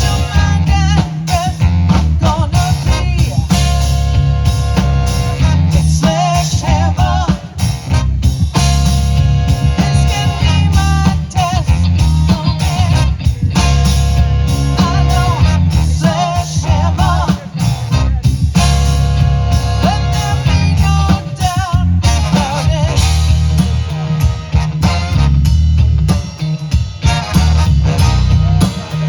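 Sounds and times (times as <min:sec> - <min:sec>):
horn band playing funk-rock: 0:00.0 - 0:29.0.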